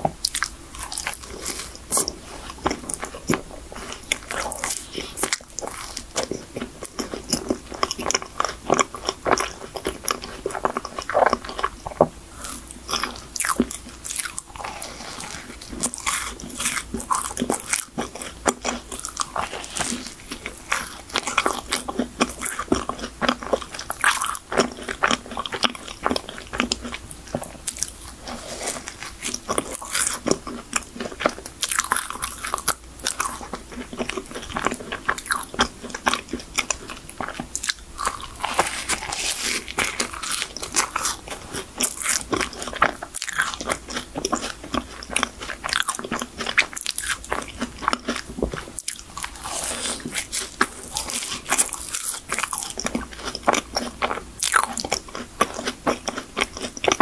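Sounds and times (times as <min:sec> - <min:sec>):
chewing with small crackles: 0:00.0 - 0:57.0.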